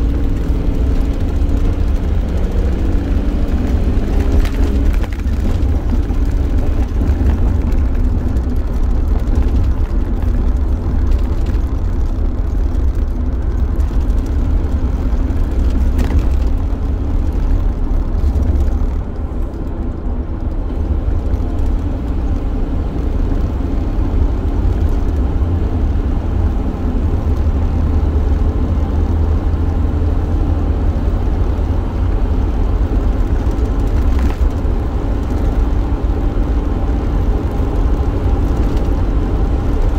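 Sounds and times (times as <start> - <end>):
engine and road rumble in cabin: 0.0 - 39.9.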